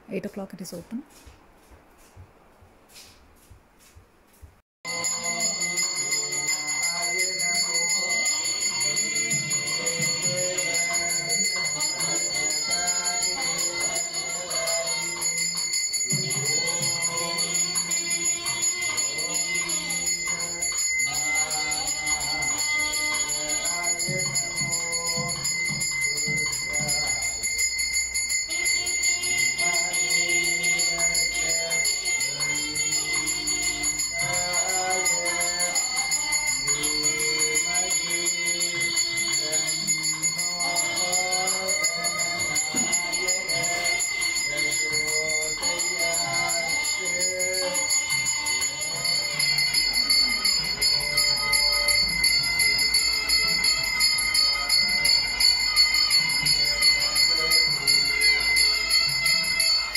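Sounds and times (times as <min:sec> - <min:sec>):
small bell ringing: 0:04.9 - 0:59.9
voices singing a chant: 0:04.9 - 0:59.9.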